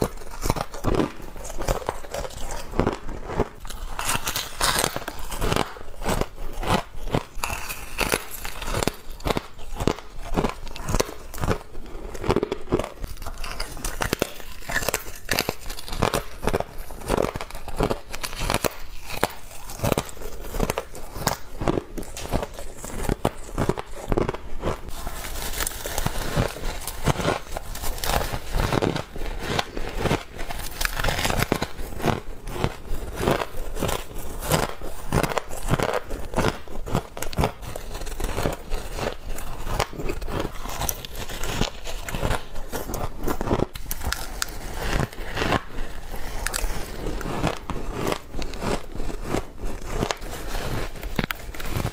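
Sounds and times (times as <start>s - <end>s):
crunchy chewing of frost: 0.0s - 51.9s.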